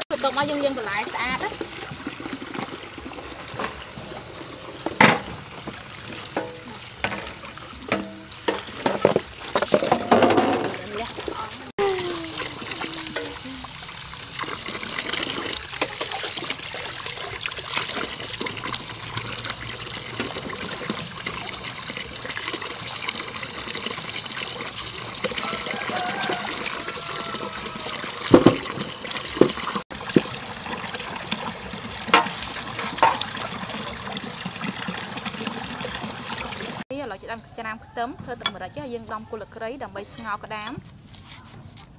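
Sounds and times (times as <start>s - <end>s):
tap water splashing into metal basin: 0.1s - 13.5s, 14.2s - 36.8s.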